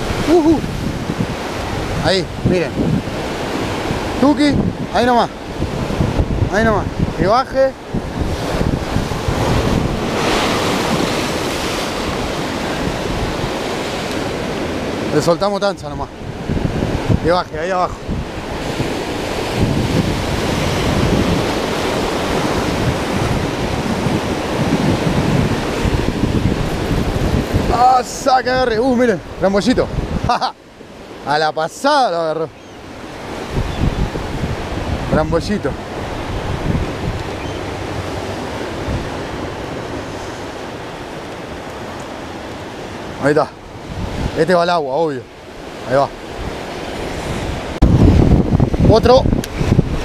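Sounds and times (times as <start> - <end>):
wind buffeting microphone: 0.0 - 31.2, 32.8 - 50.0
ocean surf breaking on rocks: 0.0 - 50.0.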